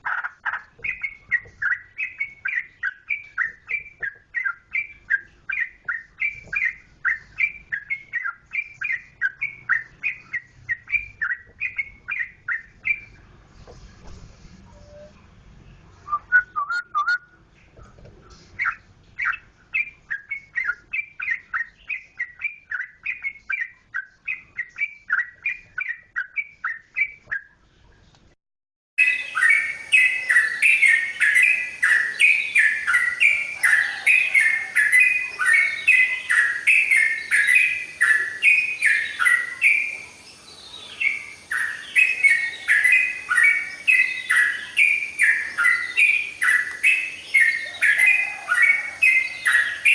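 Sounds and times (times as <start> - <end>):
bird singing bubbly chirps: 0.0 - 13.2, 16.1 - 17.4, 18.6 - 27.6, 29.0 - 49.9.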